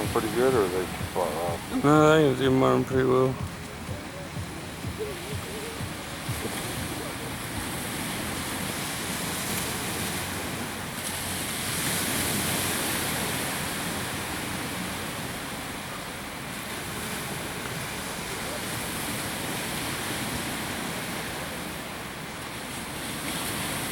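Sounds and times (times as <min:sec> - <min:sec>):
ocean surf on beach: 0:00.0 - 0:23.9.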